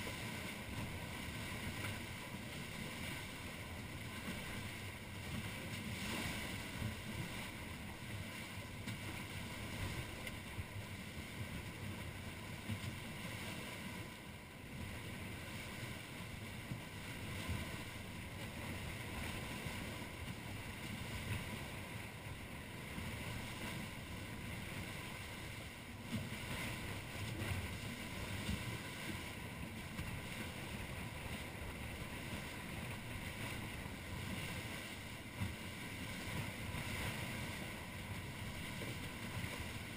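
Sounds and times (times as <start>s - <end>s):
rushing wind and water: 0.0s - 39.9s.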